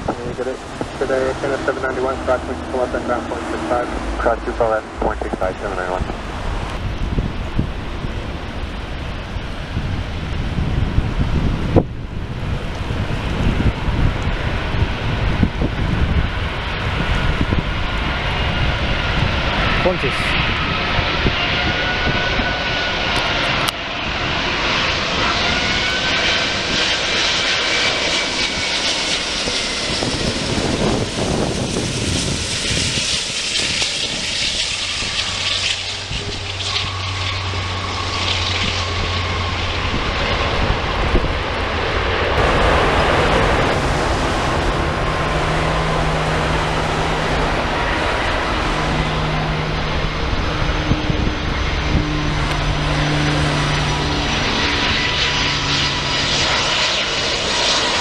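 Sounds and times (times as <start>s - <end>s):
jetliner flying past: 0.0s - 58.0s.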